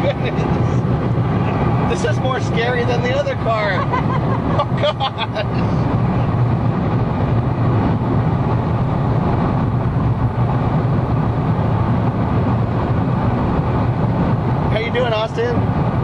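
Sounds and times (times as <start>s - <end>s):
car engine noise: 0.0s - 16.0s
wind noise: 0.0s - 16.0s.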